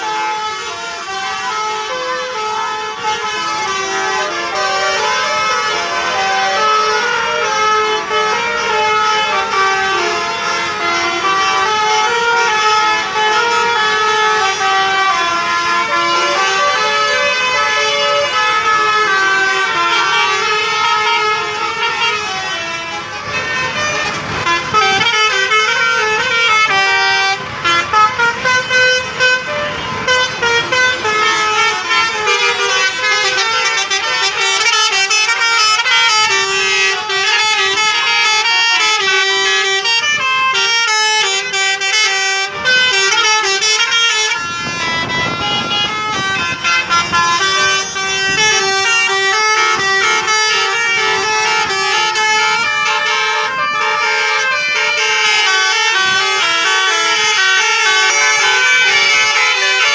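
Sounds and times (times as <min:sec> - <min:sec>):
multi-tone bus air horns: 0:00.0 - 0:59.9.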